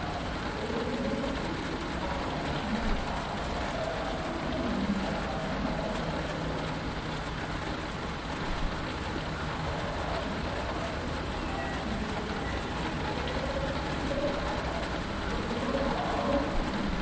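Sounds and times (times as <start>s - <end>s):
rain on a canopy: 0.0s - 17.0s.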